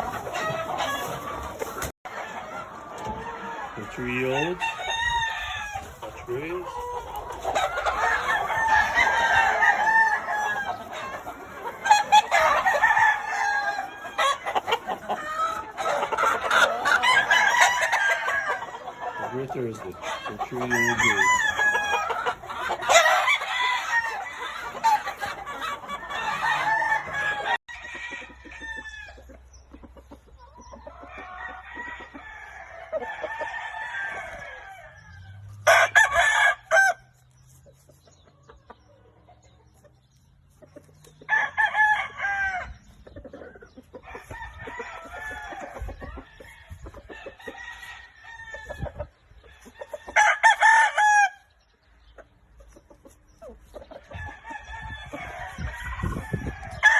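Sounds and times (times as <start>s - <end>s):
roosters crowing: 0.0s - 29.5s, 30.8s - 37.3s, 41.2s - 43.0s, 43.9s - 51.6s, 53.9s - 56.9s
chickens clucking: 0.0s - 56.9s.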